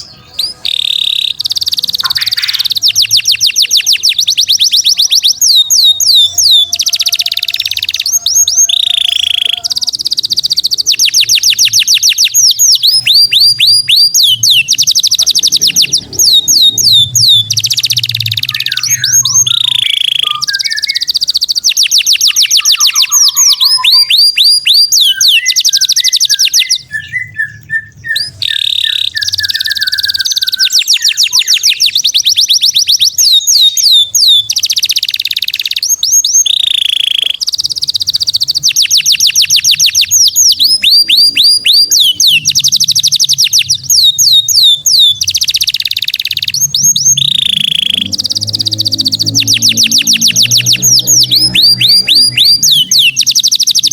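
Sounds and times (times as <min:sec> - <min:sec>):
songbird trilling: 0:00.0 - 0:53.9.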